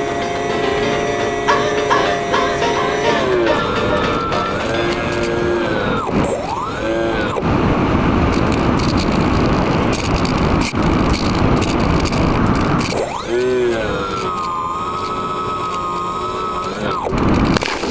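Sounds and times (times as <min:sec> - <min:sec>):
electric motors whining: 0:00.0 - 0:17.9.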